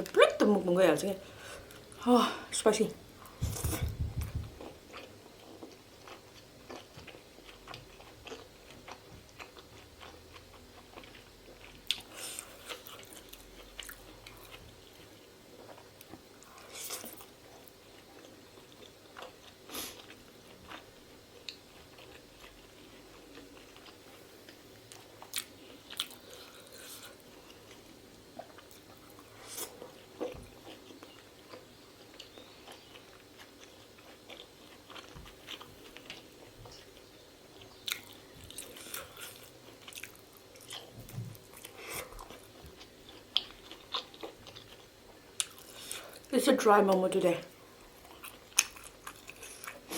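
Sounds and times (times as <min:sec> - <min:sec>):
chewing and biting: 0:03.3 - 0:46.2, 0:48.0 - 0:49.9.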